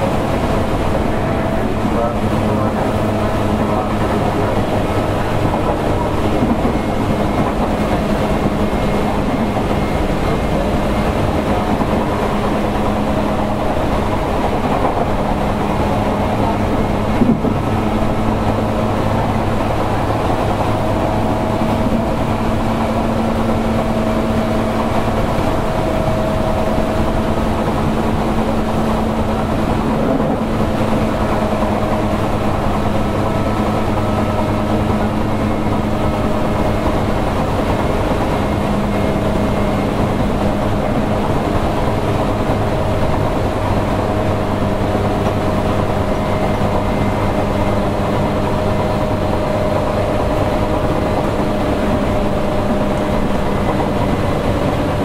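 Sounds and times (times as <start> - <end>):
electric train running: 0.0 - 55.0.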